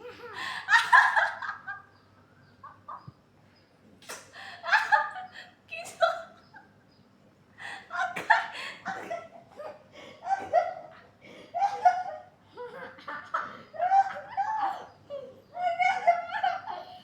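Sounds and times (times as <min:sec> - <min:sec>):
laughter: 0:00.0 - 0:03.2, 0:04.6 - 0:06.8, 0:07.8 - 0:17.0.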